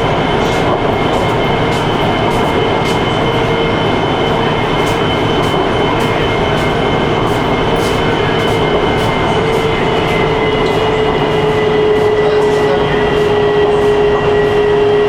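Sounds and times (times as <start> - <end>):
steady whine: 0.0 - 15.0
train wheels rumbling on rail: 0.0 - 15.0.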